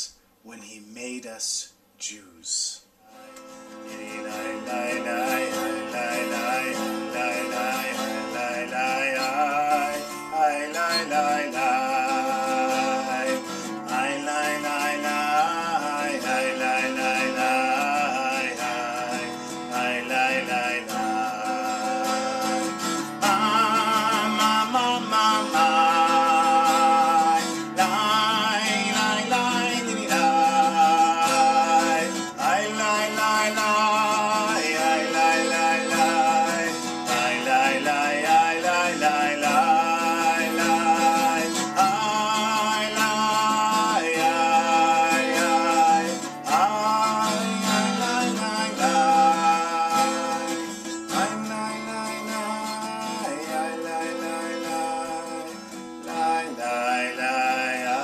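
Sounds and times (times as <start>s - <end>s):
man singing: 0.0s - 2.9s, 3.6s - 58.0s
acoustic guitar: 2.9s - 58.0s.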